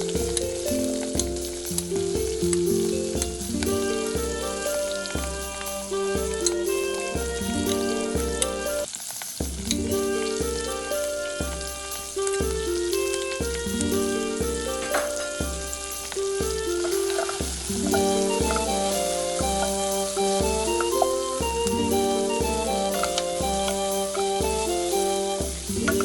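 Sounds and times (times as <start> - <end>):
food sizzling in a pan: 0.0 - 26.0
instrumental background music: 0.0 - 26.0.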